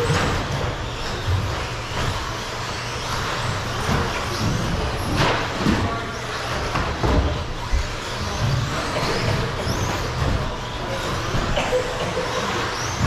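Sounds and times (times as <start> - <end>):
toy truck motor whine: 0.0 - 5.1, 7.2 - 13.0.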